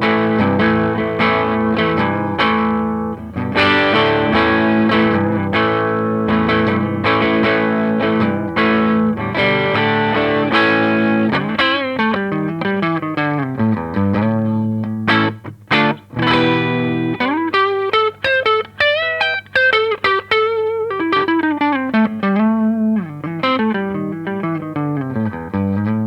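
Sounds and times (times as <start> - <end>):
electric guitar chords and notes: 0.0 - 26.0.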